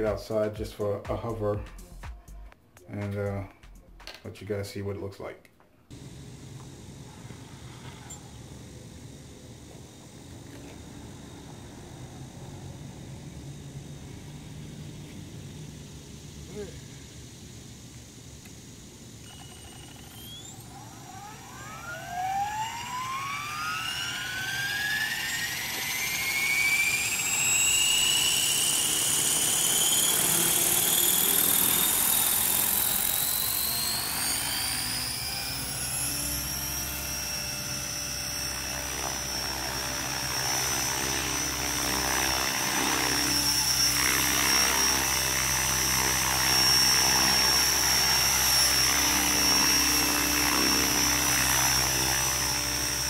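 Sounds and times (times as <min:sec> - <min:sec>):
electric helicopter motor whine: 0:05.9 - 0:53.0
rotor drone: 0:05.9 - 0:53.0.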